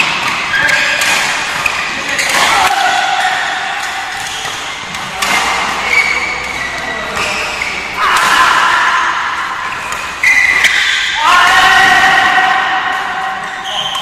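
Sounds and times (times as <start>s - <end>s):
racquets hitting shuttlecock: 0.0s - 14.0s.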